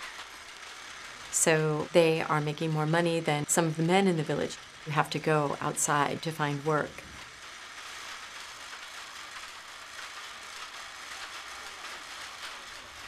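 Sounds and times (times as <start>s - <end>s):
wooden winding wheels rattling: 0.0s - 13.0s.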